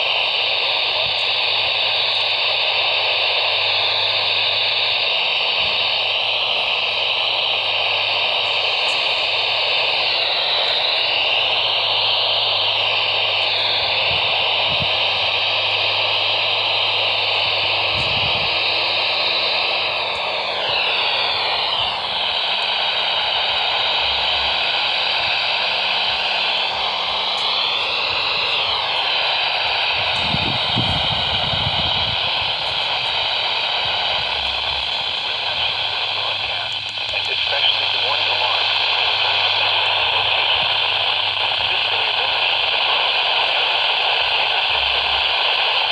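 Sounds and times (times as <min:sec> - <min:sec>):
radio static hiss: 0:00.0 - 0:45.9.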